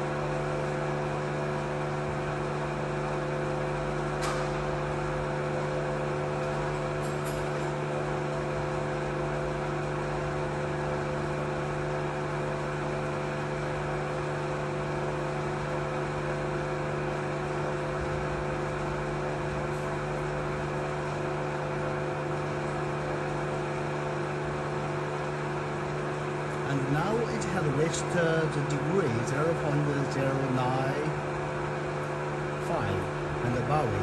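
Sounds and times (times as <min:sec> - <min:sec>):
vacuum pump humming: 0:00.0 - 0:34.0.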